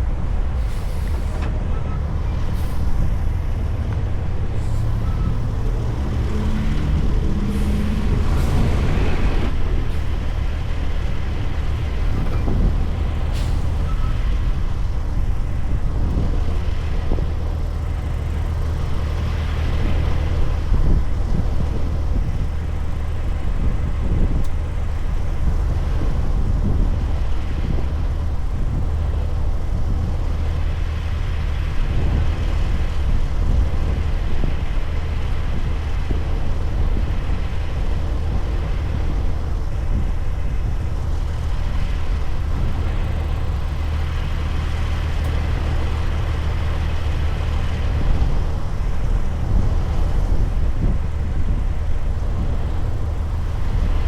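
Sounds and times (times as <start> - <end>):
truck diesel engine droning: 0.0 - 54.0.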